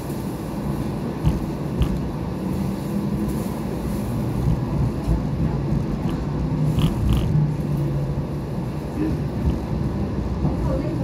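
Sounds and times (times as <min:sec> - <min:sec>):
light rail car rumbling: 0:00.0 - 0:11.0.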